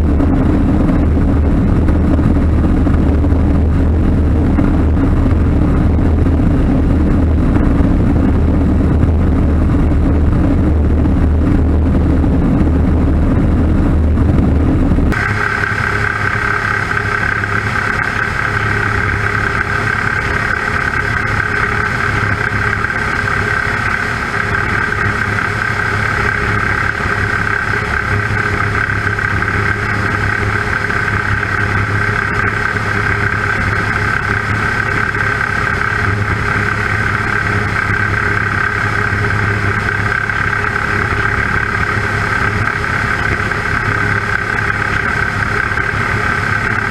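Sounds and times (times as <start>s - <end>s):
light aircraft engine and propeller: 0.0s - 46.9s.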